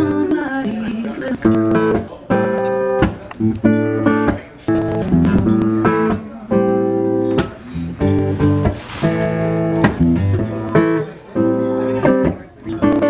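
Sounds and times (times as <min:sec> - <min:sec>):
acoustic guitars strumming chords: 0:00.0 - 0:13.0.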